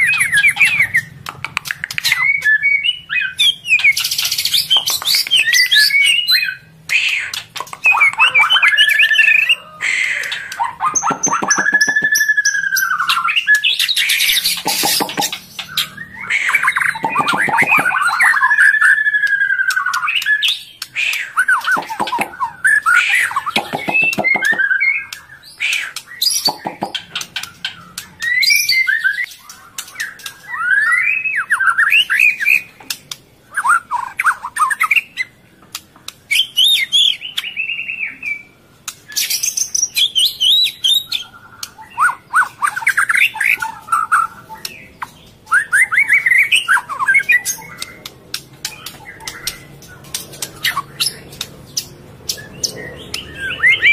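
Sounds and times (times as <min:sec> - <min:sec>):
songbirds chattering squawks: 0:00.0 - 0:53.9.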